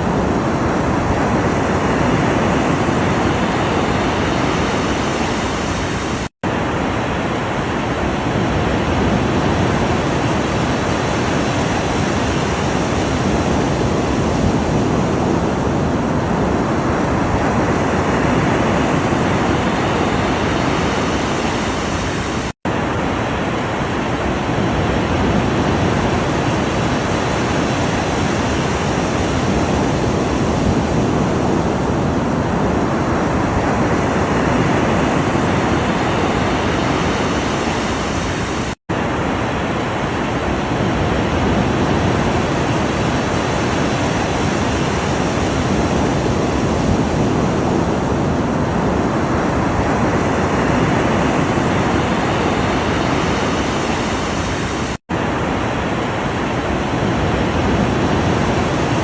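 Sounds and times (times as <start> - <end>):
ocean surf washing: 0.0 - 59.0.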